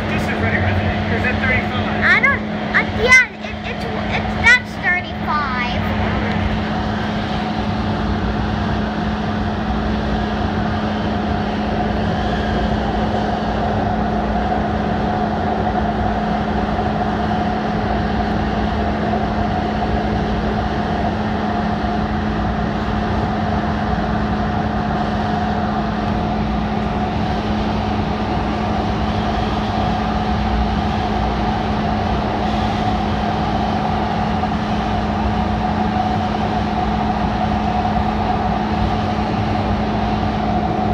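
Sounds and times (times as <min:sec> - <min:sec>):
high whine: 0:00.0 - 0:40.9
low hum: 0:00.0 - 0:40.9
train wheels rumbling on rail: 0:00.0 - 0:40.9.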